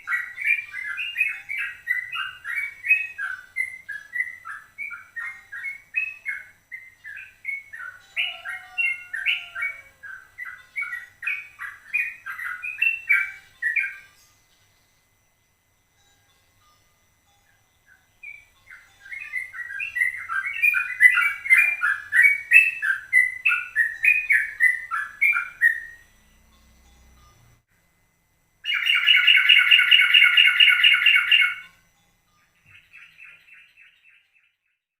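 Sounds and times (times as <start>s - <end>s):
bird chirping and trilling: 0.0s - 14.7s, 17.4s - 26.4s, 28.6s - 31.8s, 32.6s - 34.6s.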